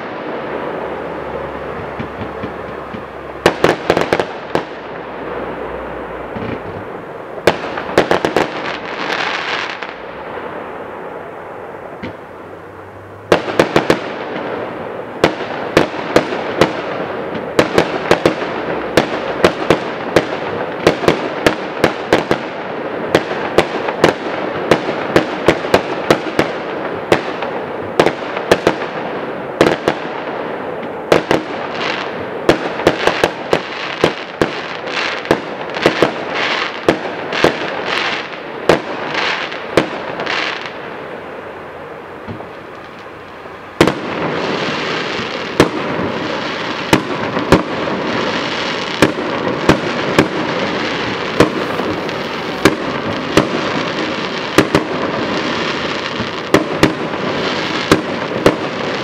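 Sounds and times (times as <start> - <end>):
firework bangs: 0.0 - 12.4, 13.2 - 59.0
continuous hiss: 0.0 - 59.0.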